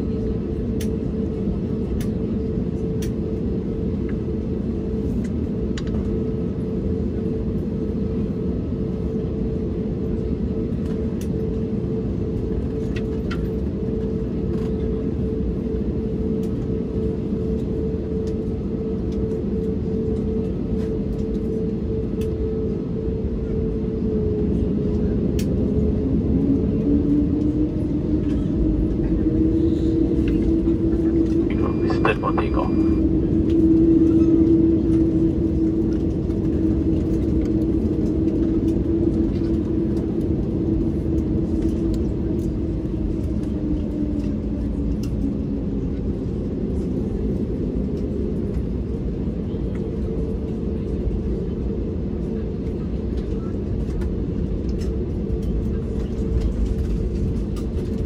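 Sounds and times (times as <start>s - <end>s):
aircraft engine hum in cabin: 0.0s - 58.0s.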